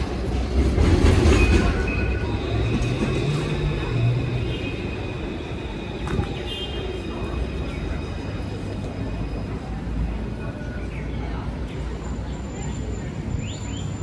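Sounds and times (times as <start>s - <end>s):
people's voices: 0.0s - 14.0s
traffic rumble: 0.0s - 14.0s.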